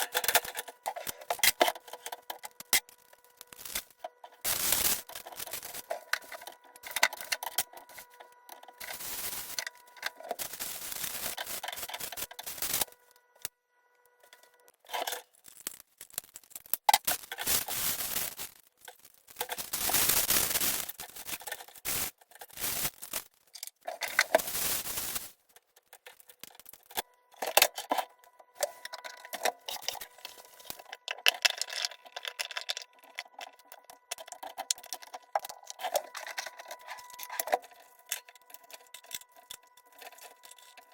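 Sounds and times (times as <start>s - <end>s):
plastic wrapping rustling: 0.0s - 13.2s, 14.2s - 40.9s
faint steady hum: 0.0s - 40.9s
scrapes and clicks: 0.0s - 40.9s.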